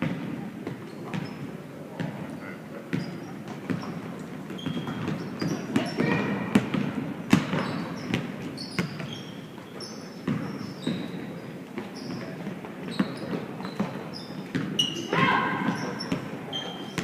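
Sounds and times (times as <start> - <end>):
shoes squeaking on gym court: 0.0 - 17.0.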